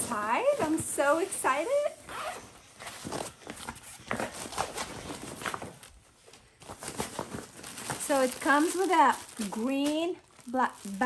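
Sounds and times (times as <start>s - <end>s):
bag rustling: 0.0s - 11.0s.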